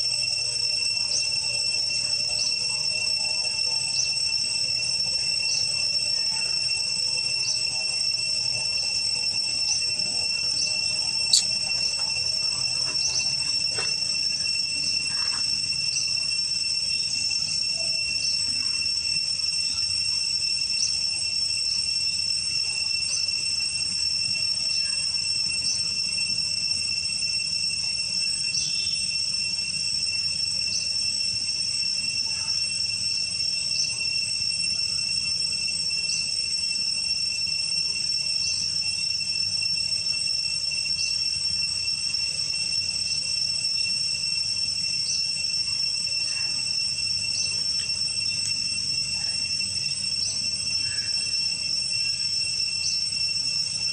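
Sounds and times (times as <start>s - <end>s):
insects shrilling: 0.0s - 53.9s.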